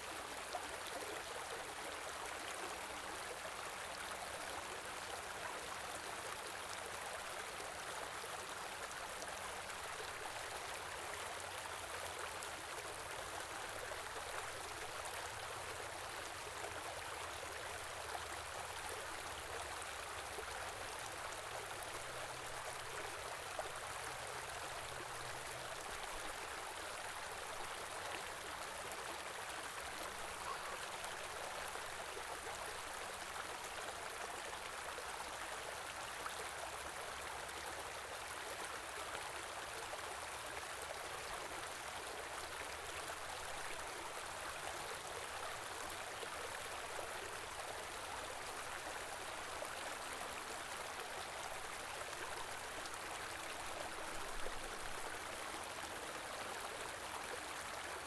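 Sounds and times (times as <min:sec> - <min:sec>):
stream flowing with small splashes: 0:00.0 - 0:58.0.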